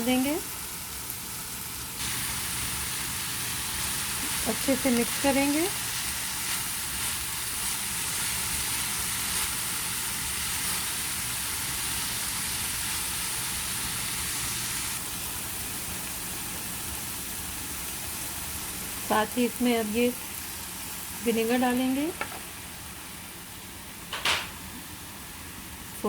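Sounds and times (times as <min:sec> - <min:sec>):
food sizzling in hot oil: 0:00.0 - 0:23.2.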